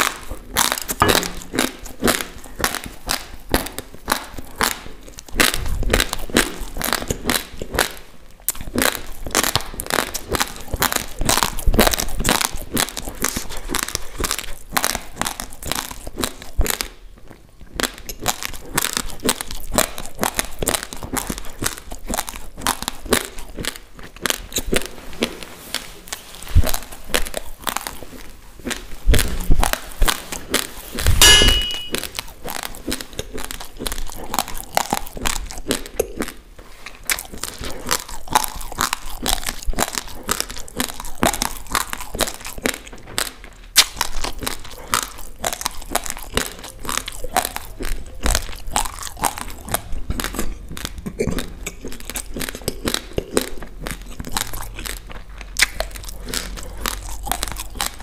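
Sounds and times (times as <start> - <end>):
crunching of rice being chewed: 0.0 - 58.0.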